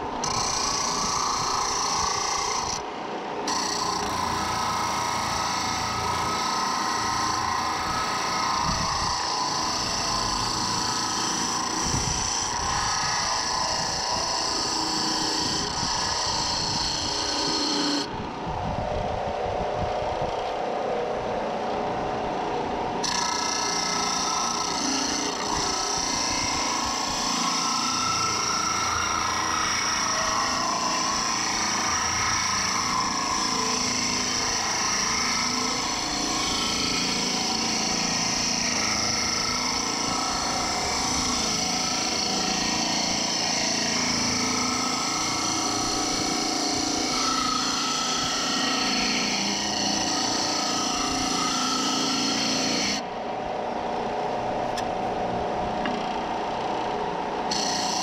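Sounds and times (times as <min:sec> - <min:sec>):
power tool motor drone: 0:00.0 - 0:58.0.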